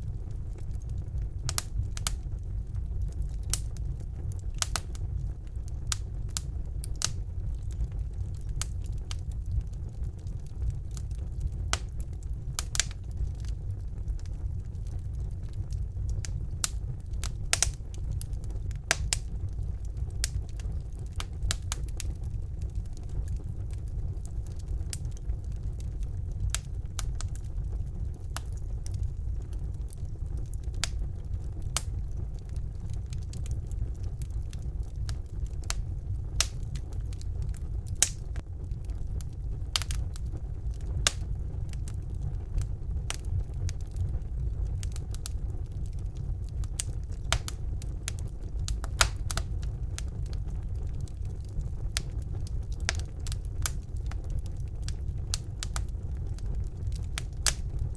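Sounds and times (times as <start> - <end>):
burning logs crackling and popping: 0.0 - 57.9
fire flames rumbling: 0.0 - 57.9.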